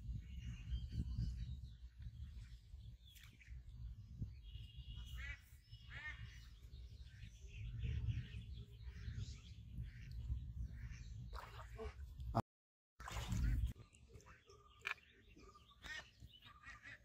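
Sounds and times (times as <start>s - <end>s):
birds chirping: 0.0s - 12.4s, 13.1s - 17.0s.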